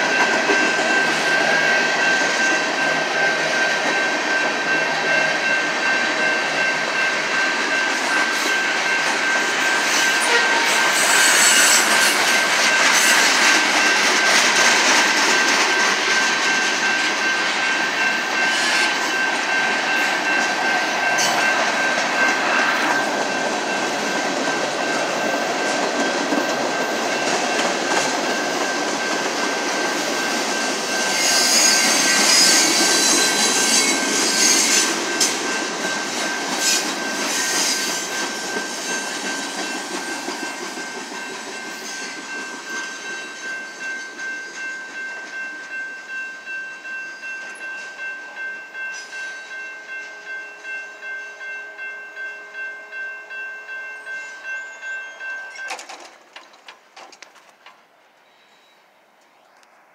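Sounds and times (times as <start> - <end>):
freight train wheels clattering: 0.0 - 51.2, 53.3 - 57.9.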